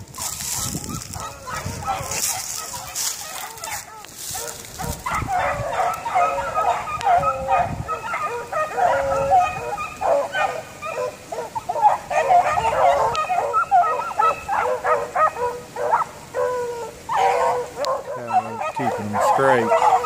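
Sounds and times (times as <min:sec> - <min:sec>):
dogs baying and yelping: 0:00.1 - 0:20.0.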